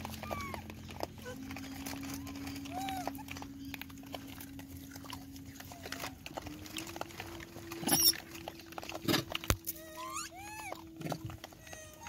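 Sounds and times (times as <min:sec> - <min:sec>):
stones clicking underfoot: 0:00.0 - 0:12.0.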